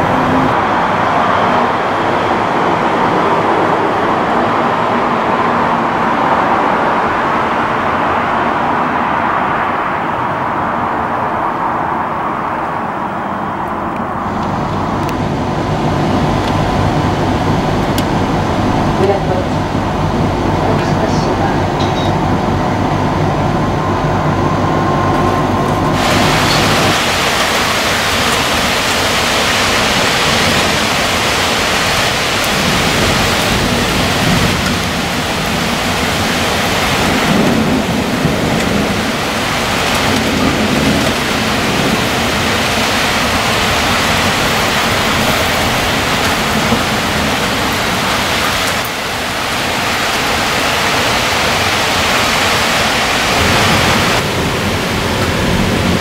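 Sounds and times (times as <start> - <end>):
heavy rain downpour: 0.0 - 56.0
low thunder rumbling: 0.0 - 56.0.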